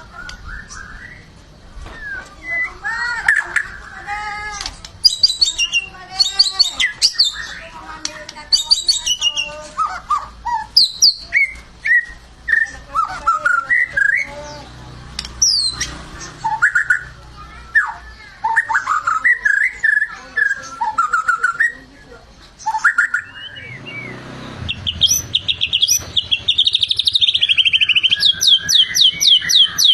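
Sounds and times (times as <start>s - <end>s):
bird singing chirps and trills: 0.0s - 29.9s.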